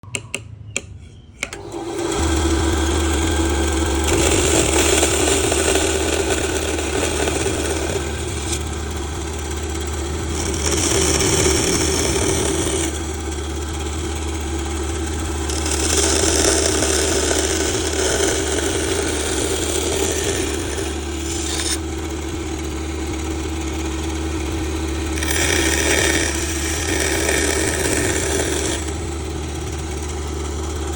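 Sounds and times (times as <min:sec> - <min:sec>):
power tool cutting wood: 0:01.5 - 0:30.9.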